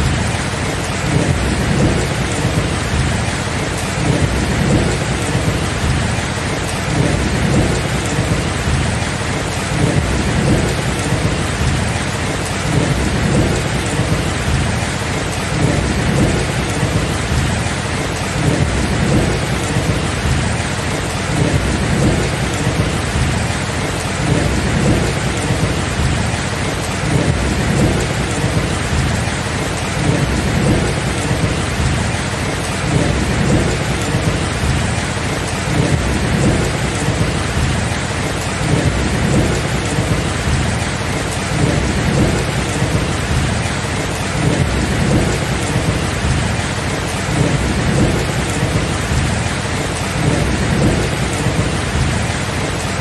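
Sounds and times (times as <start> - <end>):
low rolling thunder: 0.0 - 52.8
heavy rain: 0.0 - 53.0.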